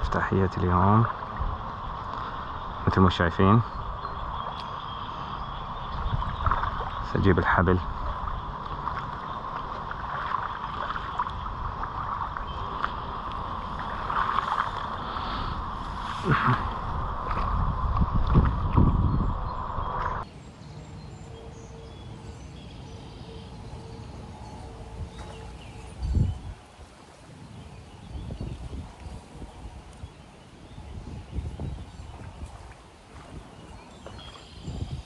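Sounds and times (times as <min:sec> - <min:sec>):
wind buffeting microphone: 0:00.0 - 0:20.3, 0:24.3 - 0:35.0.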